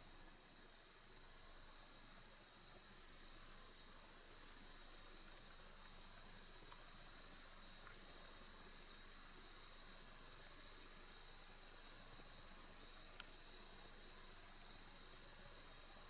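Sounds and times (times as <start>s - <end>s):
high insect chirps: 0.0s - 16.0s
insects trilling: 0.0s - 16.0s.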